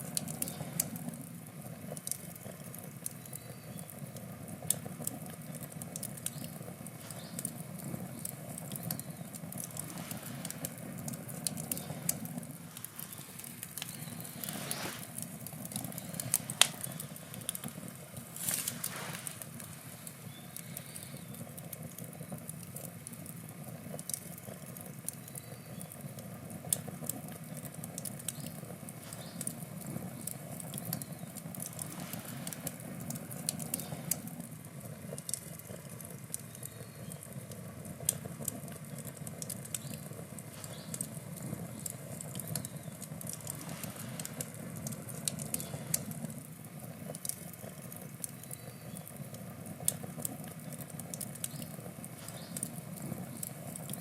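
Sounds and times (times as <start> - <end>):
campfire crackles and pops: 0.0 - 54.0
low rush of flames: 0.0 - 54.0.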